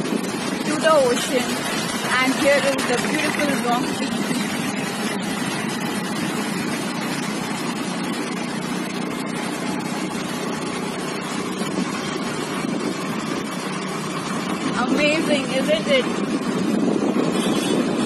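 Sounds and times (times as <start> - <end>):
motorcycle engine running: 0.0 - 18.0
road noise: 0.0 - 18.0
wind noise on microphone: 0.0 - 18.0.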